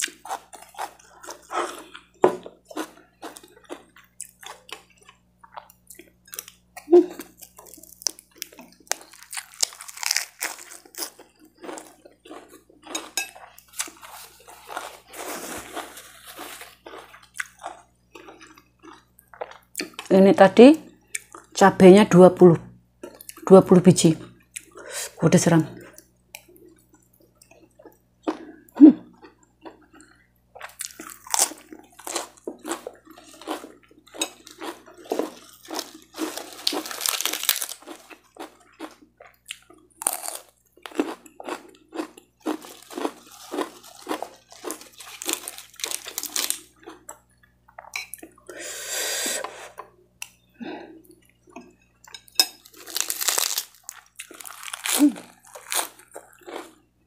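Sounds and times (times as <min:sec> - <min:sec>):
crunching and chewing food: 0:00.0 - 0:20.1, 0:20.9 - 0:21.6, 0:23.0 - 0:23.5, 0:24.4 - 0:24.8, 0:25.7 - 0:48.6, 0:49.7 - 0:57.0.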